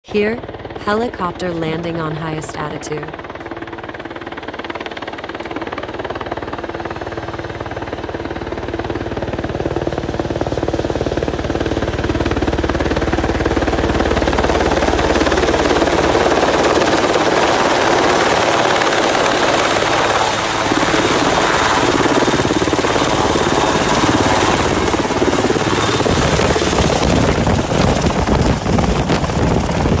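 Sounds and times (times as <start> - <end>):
helicopter rotor and engines: 0.0 - 30.0.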